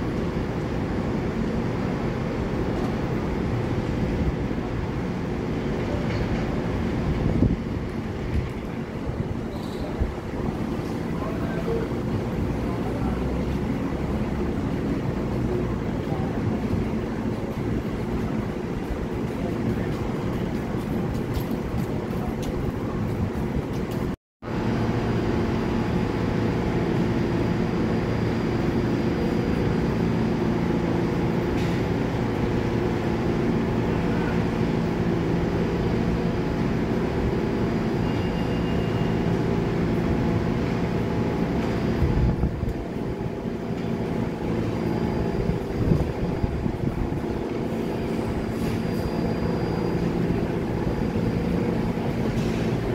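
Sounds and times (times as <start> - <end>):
elevated subway train rumble: 0.0 - 52.9
faint steady whines: 0.0 - 52.9.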